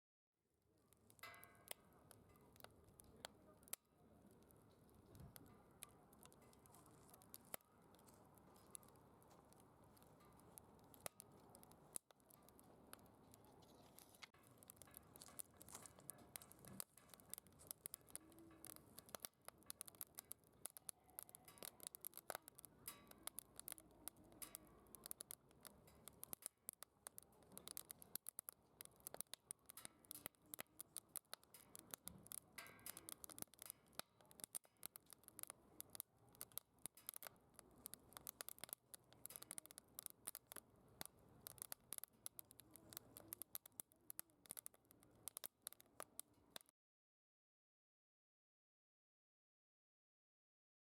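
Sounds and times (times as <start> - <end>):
campfire crackling: 0.7 - 46.7.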